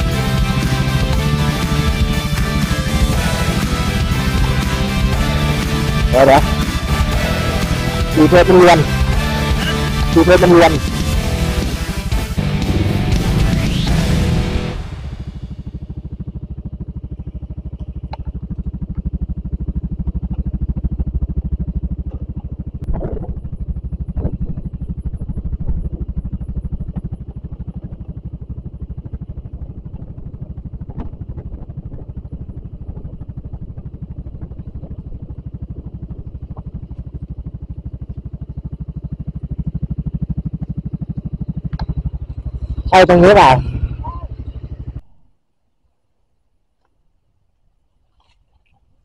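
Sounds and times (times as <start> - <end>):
scooter engine running: 0.0 - 45.0.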